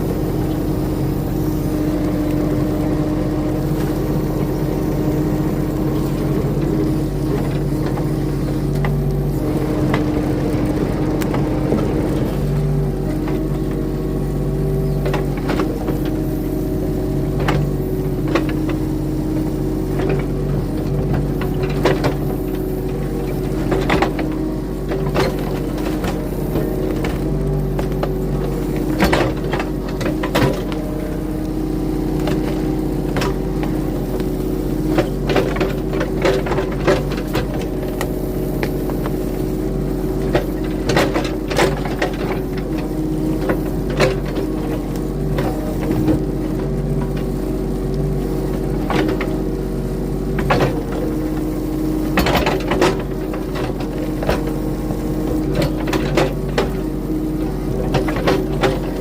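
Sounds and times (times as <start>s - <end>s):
earthmoving machine engine running: 0.0s - 59.0s.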